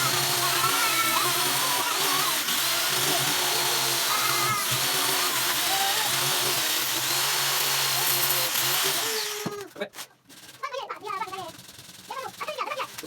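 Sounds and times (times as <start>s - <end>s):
electric power tool running: 0.0s - 10.6s.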